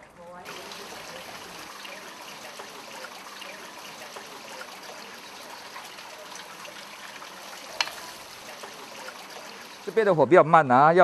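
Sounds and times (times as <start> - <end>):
vegetables frying in oil: 0.4 - 10.1.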